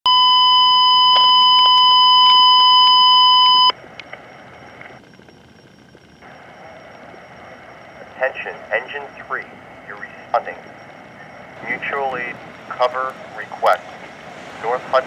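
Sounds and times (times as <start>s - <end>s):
low radio hiss: 0.8s - 15.0s.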